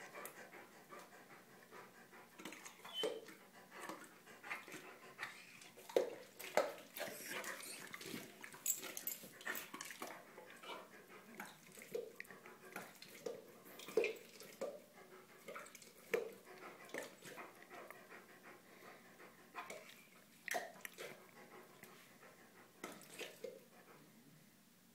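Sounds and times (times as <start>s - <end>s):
dog gulping and licking lips: 2.3s - 18.2s, 19.6s - 23.8s.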